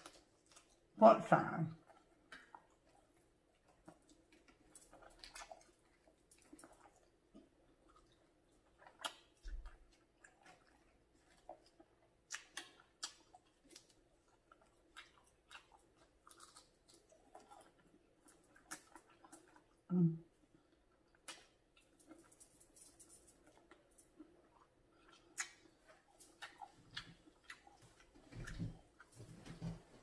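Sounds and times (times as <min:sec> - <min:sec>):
chewing and mouth smacks: 0:00.0 - 0:00.9, 0:01.8 - 0:19.9, 0:20.5 - 0:30.0.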